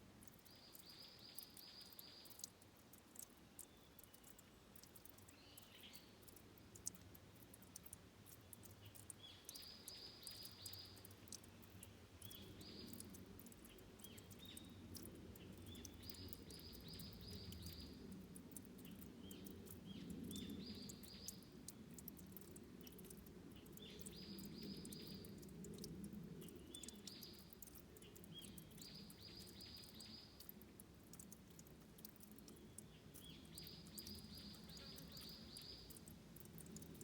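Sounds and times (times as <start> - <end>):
faint stream water running: 0.0 - 37.0
fine ticks: 0.0 - 37.0.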